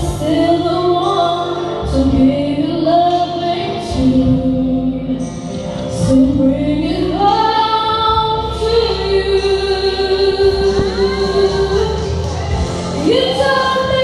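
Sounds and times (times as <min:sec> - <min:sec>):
musical accompaniment: 0:00.0 - 0:14.0
woman singing into a microphone: 0:00.0 - 0:14.0.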